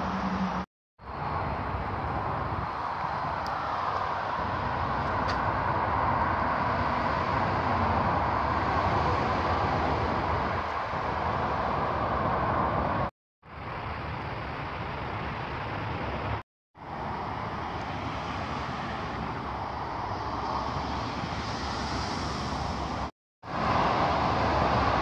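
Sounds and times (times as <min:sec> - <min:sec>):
road traffic hum: 0:00.0 - 0:25.0.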